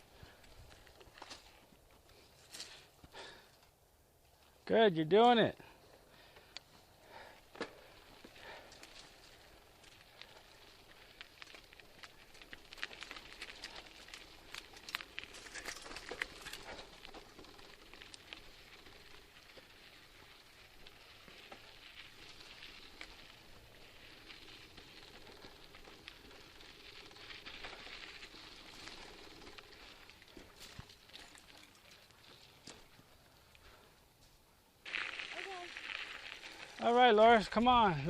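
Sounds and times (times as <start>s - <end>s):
bicycle tyres rolling on sandy dirt: 0.0s - 38.0s.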